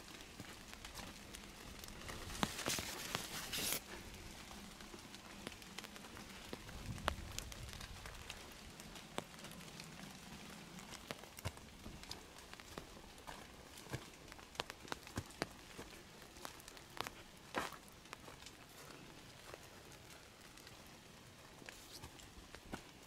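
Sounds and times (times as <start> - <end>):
footsteps on a trail: 0.0 - 20.8, 21.6 - 23.0
rustle: 0.0 - 23.0.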